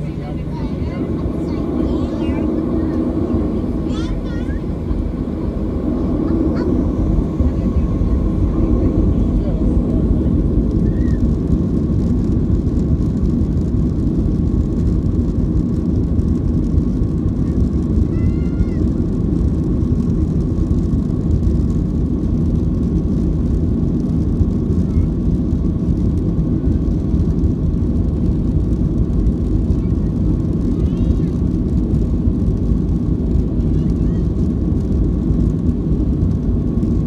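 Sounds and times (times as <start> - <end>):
airplane cabin engine rumble: 0.0 - 37.0
jet engine whine: 0.0 - 37.0.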